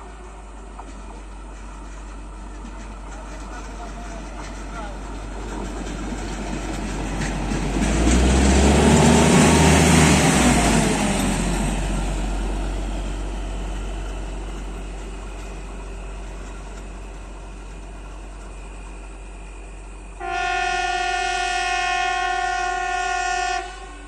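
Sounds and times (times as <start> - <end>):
rail vehicle engine passing: 0.0 - 24.0.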